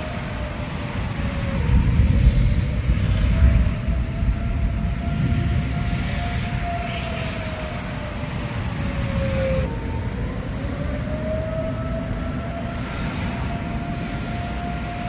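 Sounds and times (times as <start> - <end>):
wailing warning siren: 0.0 - 15.0.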